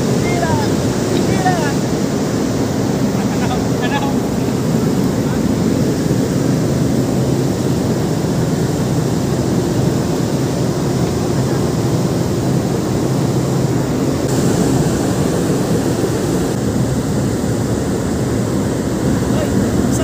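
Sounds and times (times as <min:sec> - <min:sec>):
ship noise rumble: 0:00.0 - 0:20.0
wind on ship deck: 0:00.0 - 0:20.0.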